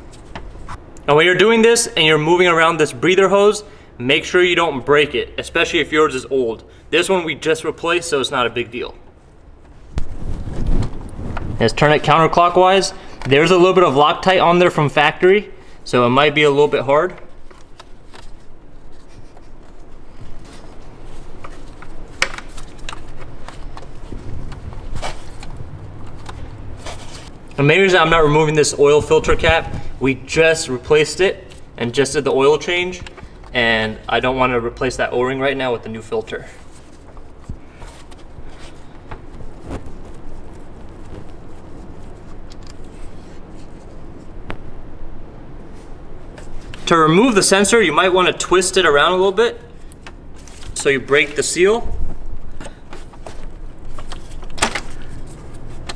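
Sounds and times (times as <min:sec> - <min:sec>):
gloved hands rustling and scraping: 0:08.4 - 0:44.6, 0:45.6 - 0:55.9.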